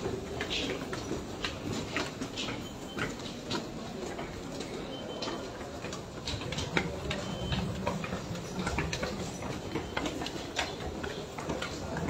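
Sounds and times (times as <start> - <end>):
low background murmur: 0.0 - 12.0.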